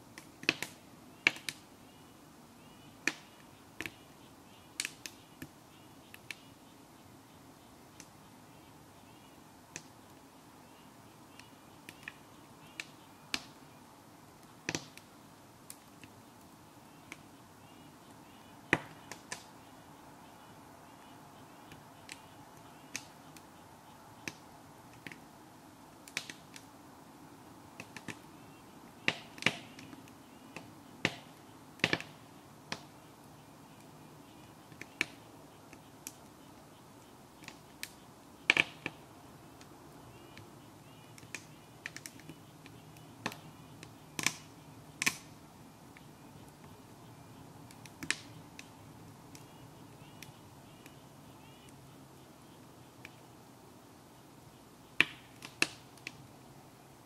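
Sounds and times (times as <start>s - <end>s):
faint steady background rush: 0.0s - 57.0s
wood fire crackling: 0.0s - 57.0s.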